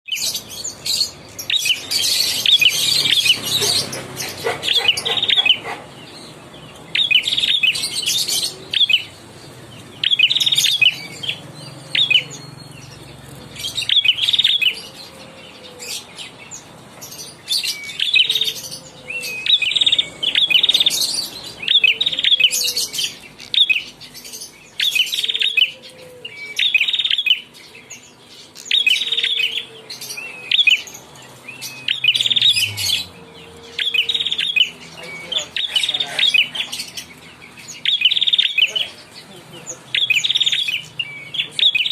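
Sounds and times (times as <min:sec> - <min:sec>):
bird singing high chirps: 0:00.1 - 0:41.9.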